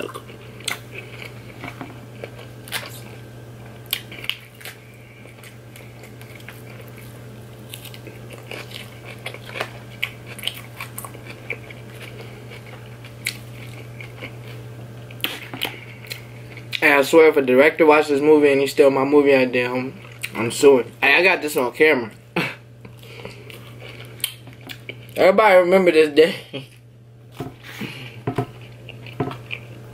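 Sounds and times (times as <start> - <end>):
chewing and crunching salad: 0.0 - 17.2, 19.5 - 25.3, 26.5 - 29.9.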